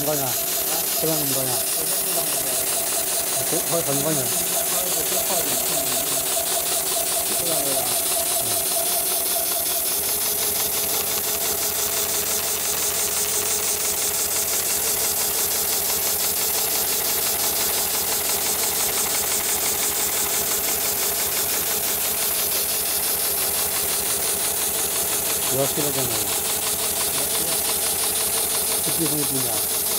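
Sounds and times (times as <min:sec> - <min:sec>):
steady motor hum: 0:00.0 - 0:29.9
stitching machine needle rhythm: 0:00.0 - 0:29.9.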